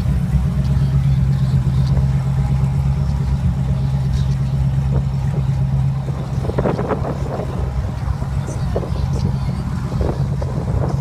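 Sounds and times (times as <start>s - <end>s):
car engine idling: 0.0s - 11.0s
faint voices: 0.1s - 11.0s.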